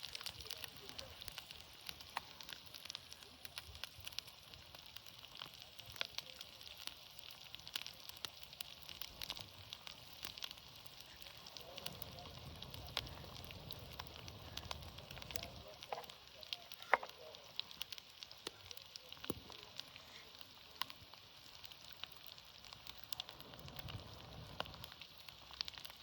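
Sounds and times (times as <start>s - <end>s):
eggs sizzling in fat: 0.0s - 26.0s
fat crackling and popping: 0.0s - 26.0s.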